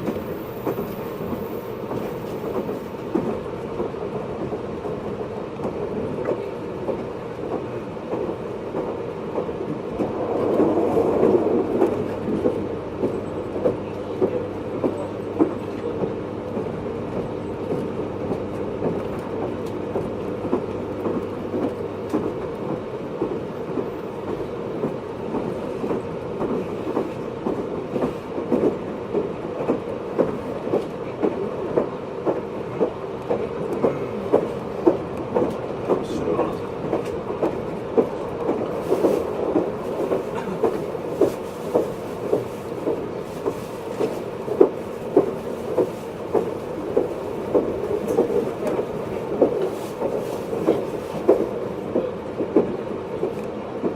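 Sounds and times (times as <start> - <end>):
train rolling rumble: 0.0 - 53.9.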